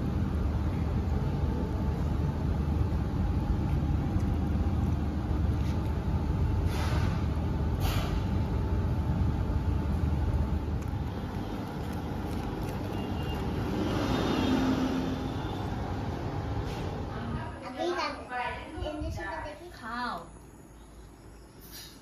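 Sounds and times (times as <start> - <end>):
restaurant room noise: 0.0 - 22.0.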